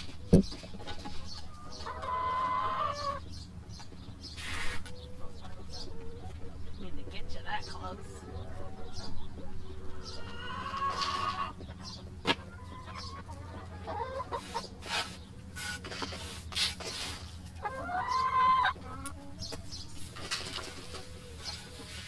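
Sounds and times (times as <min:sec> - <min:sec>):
chickens clucking: 0:00.0 - 0:22.0
drawn-out chicken calls: 0:00.0 - 0:22.0.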